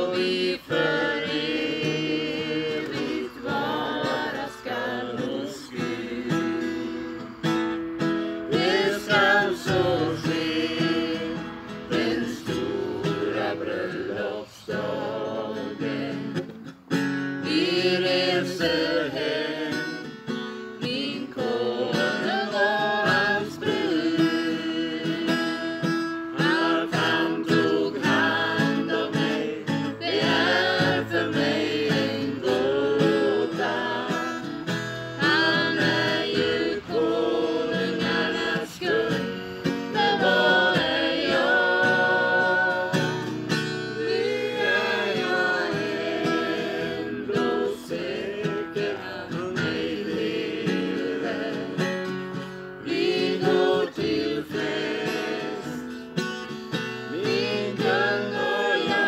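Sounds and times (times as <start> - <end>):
group singing in unison: 0.0 - 59.0
strummed acoustic guitar: 0.0 - 59.0.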